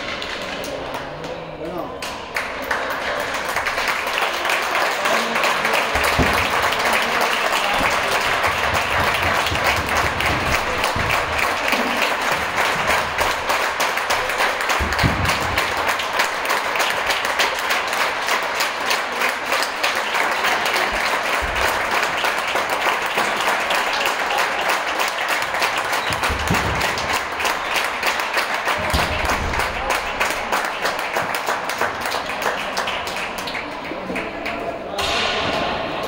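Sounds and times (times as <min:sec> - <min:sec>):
applause: 0:00.0 - 0:35.0.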